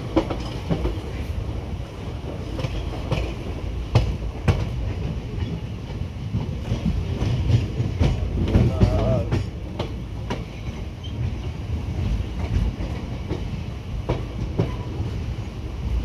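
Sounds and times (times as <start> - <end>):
clickety-clack over rail joints: 0.0 - 16.0
train wheels rumbling: 0.0 - 16.0.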